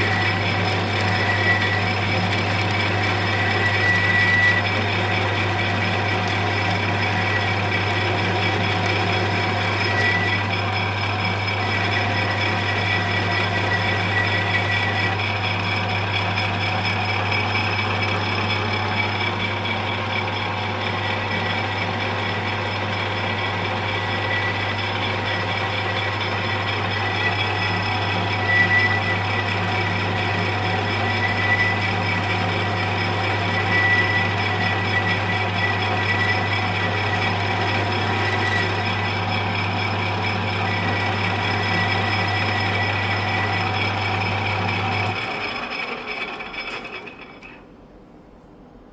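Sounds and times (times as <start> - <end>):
lathe machining steel: 0.0 - 47.7.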